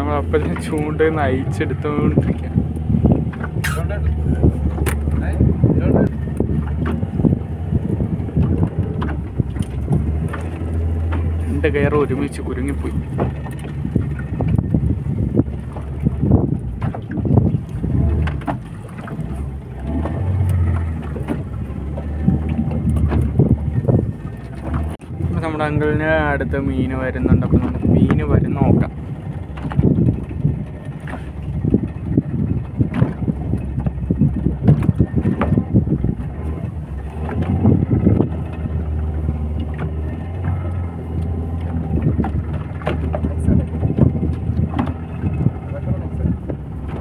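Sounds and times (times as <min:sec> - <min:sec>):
boat engine humming: 0:00.0 - 0:47.0
wind buffeting microphone: 0:00.0 - 0:47.0.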